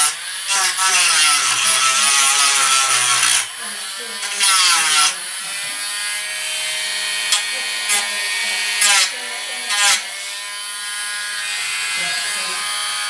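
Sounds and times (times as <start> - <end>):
rotary tool sanding: 0.0 - 13.0.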